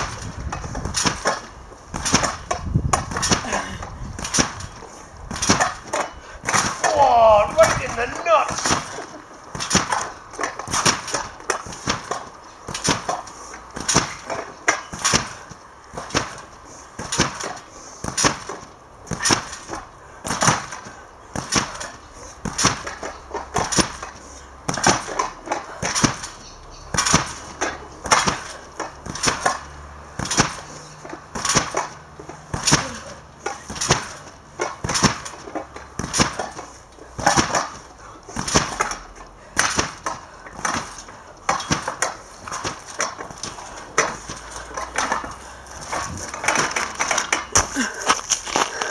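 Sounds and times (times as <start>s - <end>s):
bike landing on trampoline: 0.0s - 48.9s.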